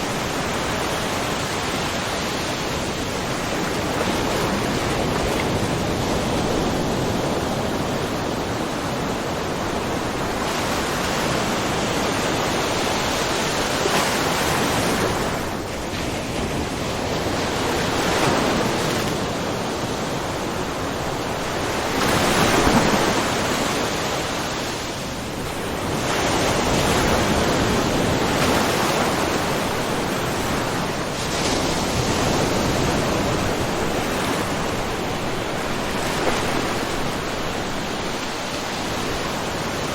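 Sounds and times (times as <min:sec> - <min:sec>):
waves splashing on rocky shore: 0:00.0 - 0:39.9.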